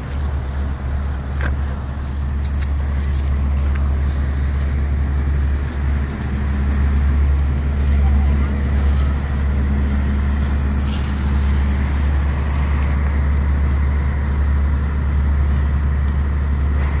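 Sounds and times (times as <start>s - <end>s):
fire engine droning: 0.0s - 17.0s.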